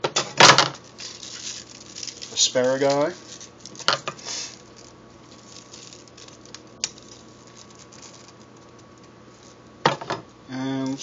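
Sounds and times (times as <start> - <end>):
steady hiss: 0.8 - 11.0.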